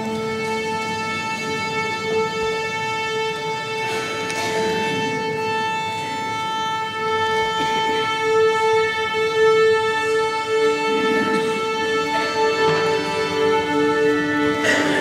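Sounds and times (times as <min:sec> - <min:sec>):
strings bowing open strings: 0:00.0 - 0:15.0.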